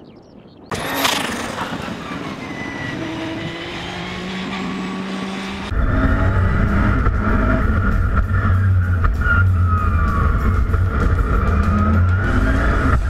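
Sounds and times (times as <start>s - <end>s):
race car engine running hard: 0.7s - 13.0s.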